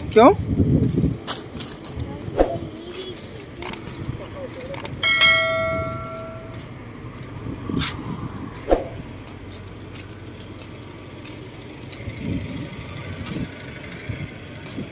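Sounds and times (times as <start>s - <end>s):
low rumble of road traffic: 0.0s - 14.9s.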